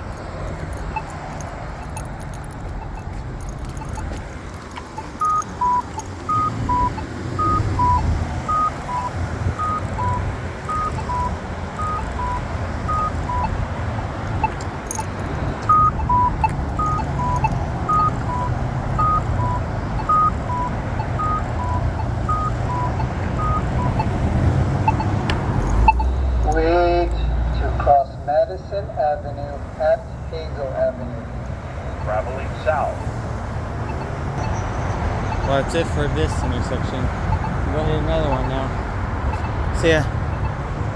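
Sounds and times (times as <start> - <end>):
pedestrian signal beeps: 0.0 - 40.9
road traffic rumble: 0.0 - 40.9.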